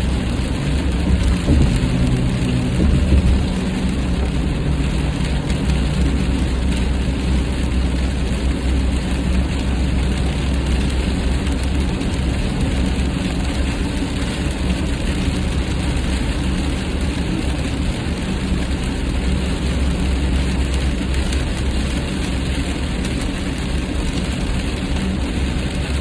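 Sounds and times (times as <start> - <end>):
engine and tyre drone: 0.0 - 26.0.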